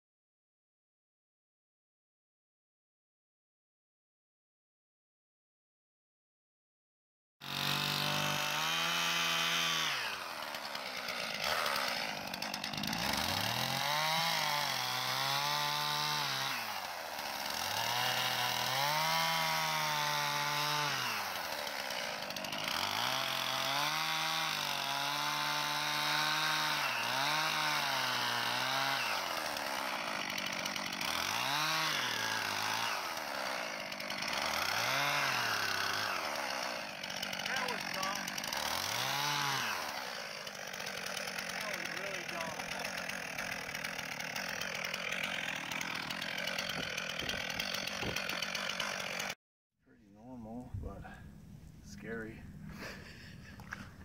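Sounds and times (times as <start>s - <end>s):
chainsaw cutting through ice: 7.4s - 49.4s, 52.1s - 54.0s.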